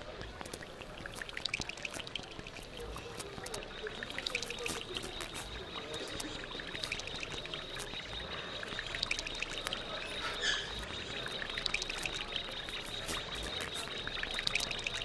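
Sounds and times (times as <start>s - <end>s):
scattered clicks: 0.0s - 10.0s, 10.7s - 15.0s.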